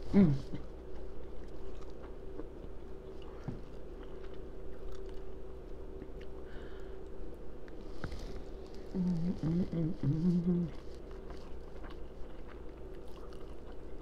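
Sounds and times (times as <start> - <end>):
chewing and lip-smacking: 0.8 - 6.4, 7.6 - 14.0.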